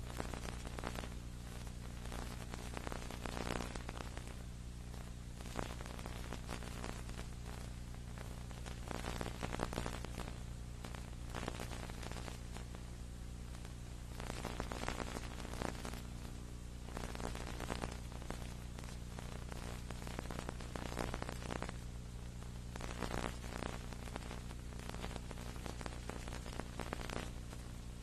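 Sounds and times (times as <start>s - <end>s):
bursts of crackle: 0.0s - 28.0s
low electrical hum and hiss: 0.0s - 28.0s.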